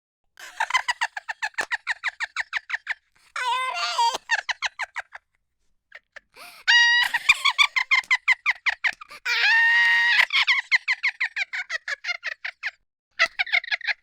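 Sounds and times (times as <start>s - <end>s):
high-pitched laughing: 0.4s - 5.2s, 5.9s - 14.0s.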